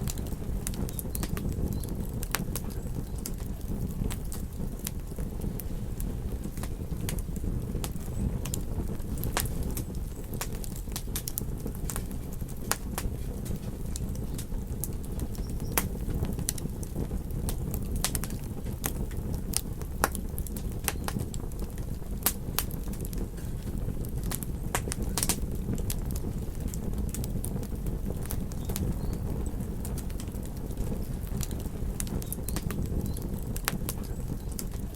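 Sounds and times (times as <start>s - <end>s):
flames rumbling: 0.0s - 34.9s
wood fire crackling: 0.0s - 34.9s.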